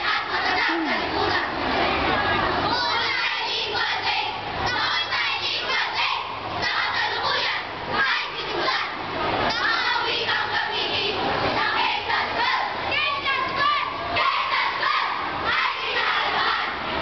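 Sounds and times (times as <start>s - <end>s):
children reciting in unison: 0.0s - 17.0s.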